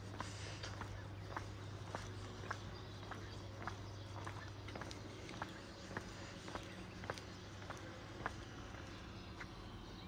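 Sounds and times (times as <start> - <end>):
footsteps on a hard path: 0.0 - 10.0.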